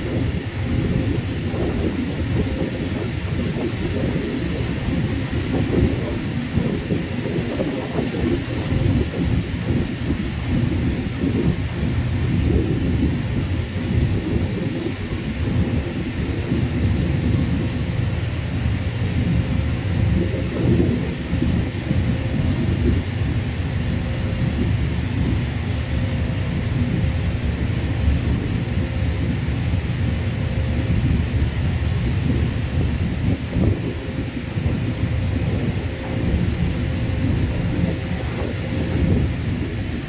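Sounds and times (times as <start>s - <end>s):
engine hiss: 0.0s - 40.0s
jet engines rumbling: 0.0s - 40.0s.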